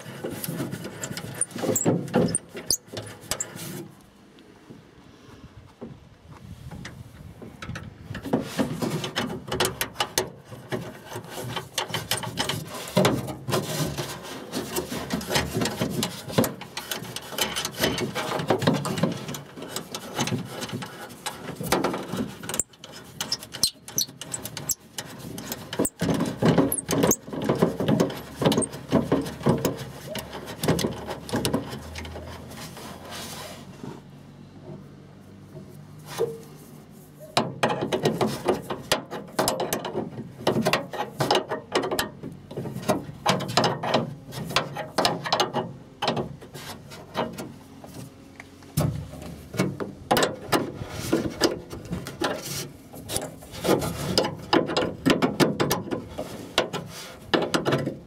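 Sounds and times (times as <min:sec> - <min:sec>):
hands rubbing and clicking on plastic: 0:07.6 - 0:33.8, 0:36.0 - 0:58.0.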